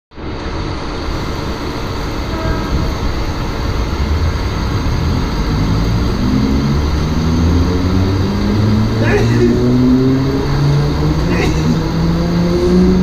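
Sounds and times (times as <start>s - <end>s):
train rumble and hum: 0.1s - 13.0s
traction motor whine rising: 0.4s - 13.0s.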